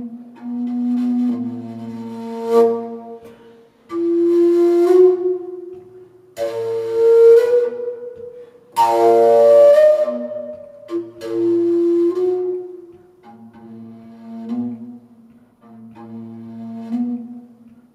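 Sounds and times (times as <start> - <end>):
solo flute melody: 0.0 - 17.9.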